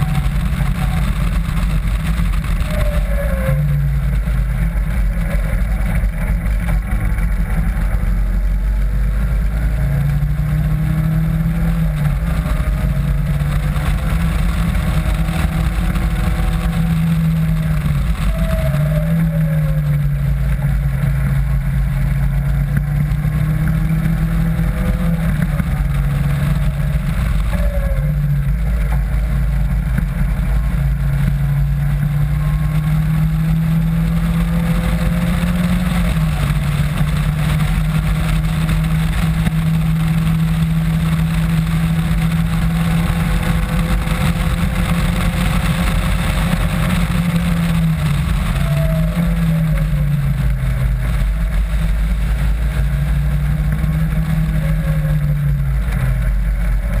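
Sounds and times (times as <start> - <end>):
race car engine running hard: 0.0 - 57.0
wind rumble: 0.0 - 57.0.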